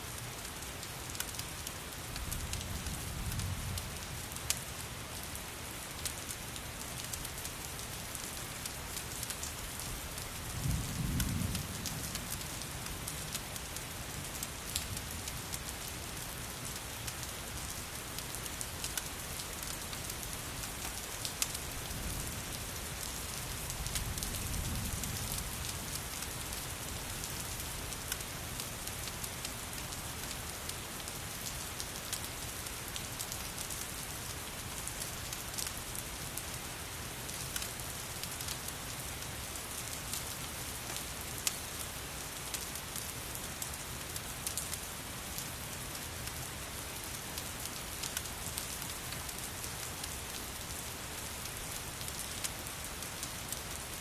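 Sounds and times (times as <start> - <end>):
steady rain: 0.0 - 54.0
wood fire crackling: 4.2 - 24.4, 25.0 - 36.2, 37.2 - 54.0.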